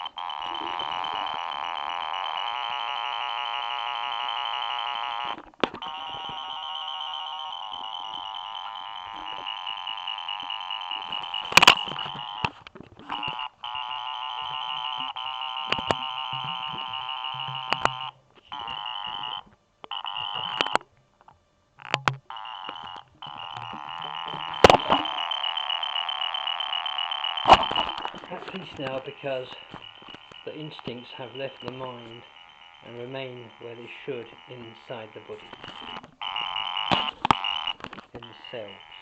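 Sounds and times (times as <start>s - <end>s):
alarm-like synthesizer tones: 0.0s - 12.5s, 13.1s - 20.8s, 22.3s - 39.0s.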